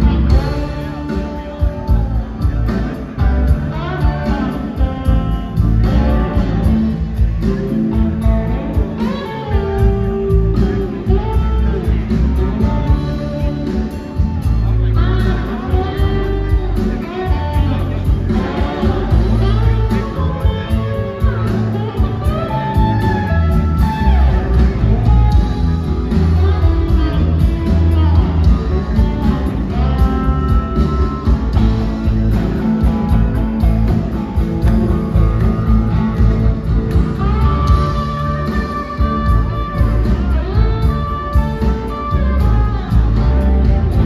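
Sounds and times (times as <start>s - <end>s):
electric guitar lead lines: 0.0s - 44.0s
live blues band: 0.0s - 44.0s.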